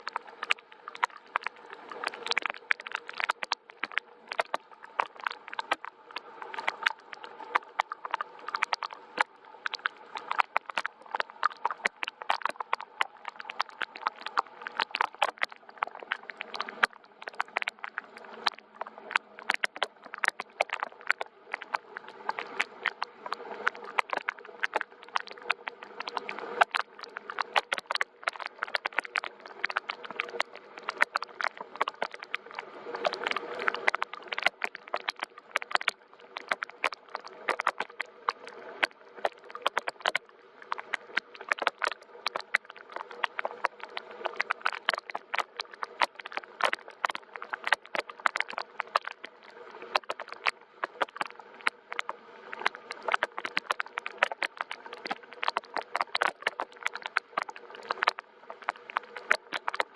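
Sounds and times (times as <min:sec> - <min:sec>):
soft rain patter: 0:00.0 - 0:59.9.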